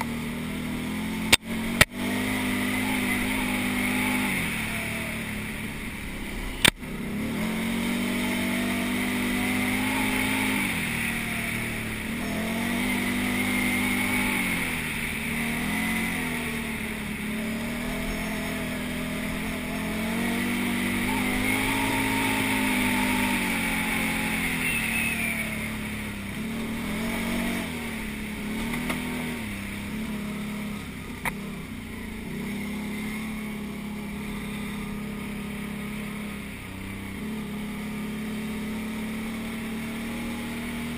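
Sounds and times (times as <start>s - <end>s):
quad bike engine revving: 0.0s - 40.9s.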